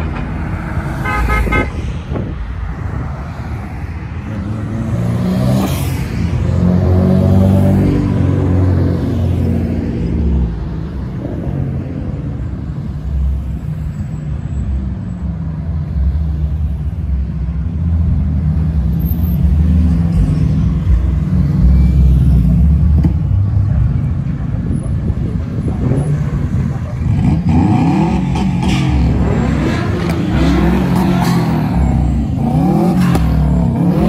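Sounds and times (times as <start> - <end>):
vehicles driving past: 0.0 - 34.0.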